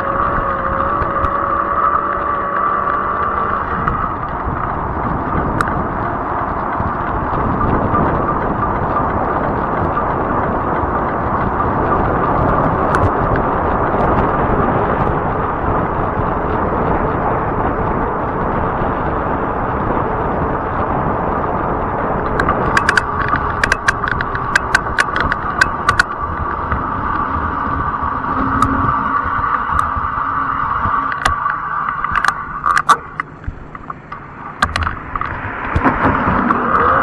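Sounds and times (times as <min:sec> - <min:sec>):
sharp uneven clicks: 0:00.0 - 0:37.0
tires rolling on asphalt: 0:00.0 - 0:37.0
wind on microphone: 0:00.0 - 0:37.0.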